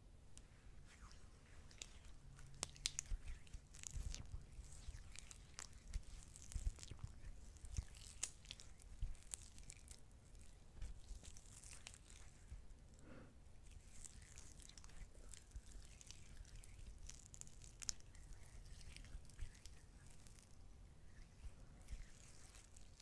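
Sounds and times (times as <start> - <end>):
small crackles: 0.3 - 23.0.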